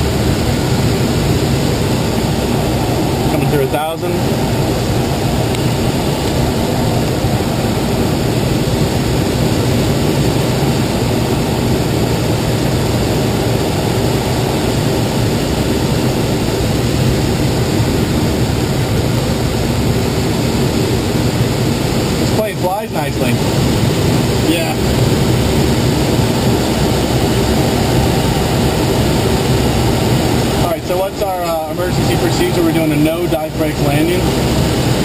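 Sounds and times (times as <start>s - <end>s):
air rushing around cockpit: 0.0s - 35.0s
low drone: 0.0s - 35.0s.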